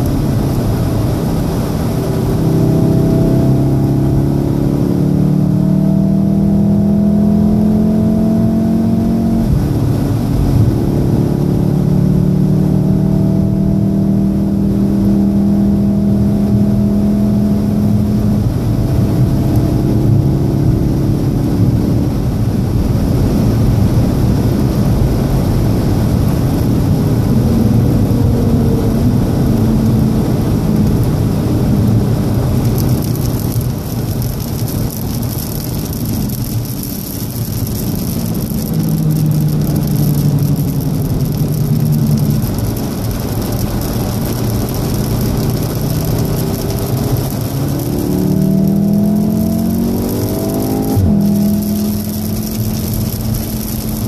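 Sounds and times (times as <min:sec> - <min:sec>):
car engine accelerating: 0:00.0 - 0:54.0
tyre and road noise: 0:00.0 - 0:54.0.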